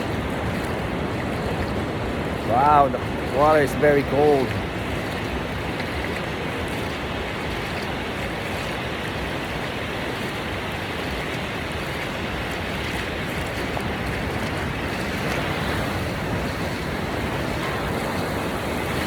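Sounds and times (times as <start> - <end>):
ocean surf on beach: 0.0 - 19.0.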